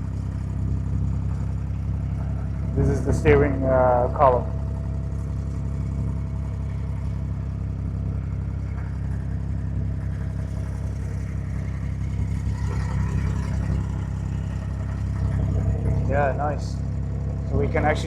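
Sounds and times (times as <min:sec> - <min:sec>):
boat diesel engine humming: 0:00.0 - 0:18.0.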